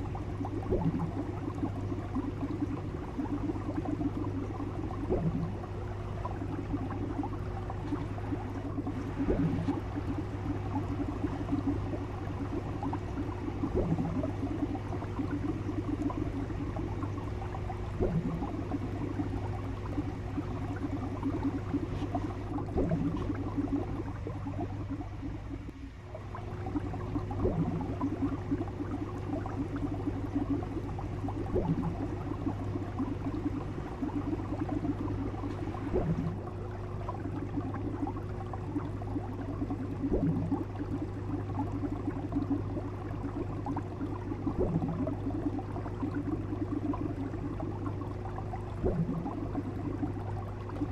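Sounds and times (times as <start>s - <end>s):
aquarium water bubbling: 0.0s - 50.9s
low hum: 0.0s - 50.9s.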